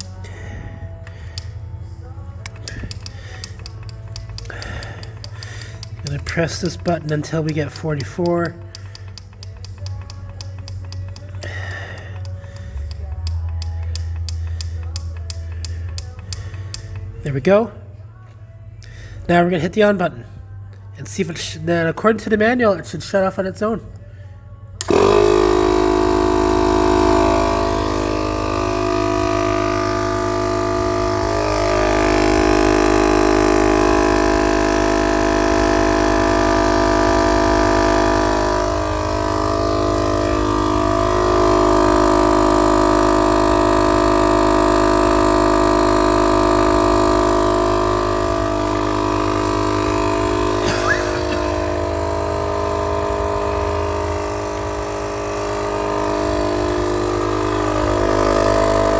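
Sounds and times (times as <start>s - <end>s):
air compressor humming: 0.0s - 58.9s.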